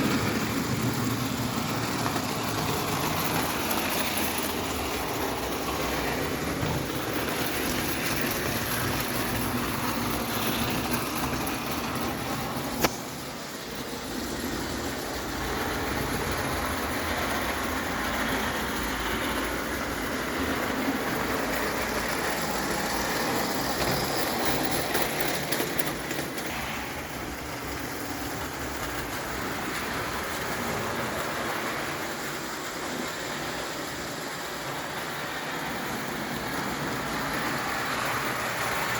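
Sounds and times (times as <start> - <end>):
toy steam engine running on track: 0.0 - 38.9.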